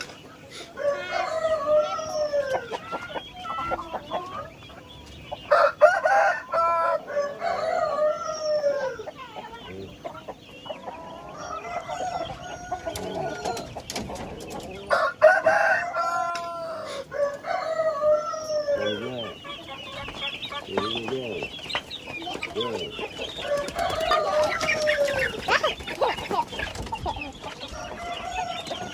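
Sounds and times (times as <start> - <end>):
hens clucking: 0.0 - 28.9
roosters crowing: 0.5 - 28.9.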